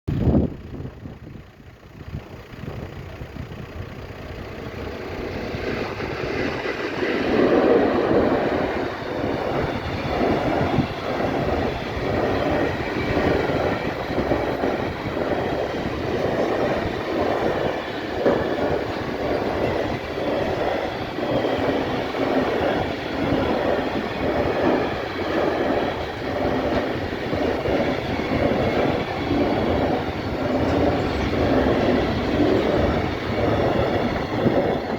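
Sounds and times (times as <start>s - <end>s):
electric locomotive passing: 0.1s - 34.9s
train wheels clattering over rail joints: 4.6s - 34.9s.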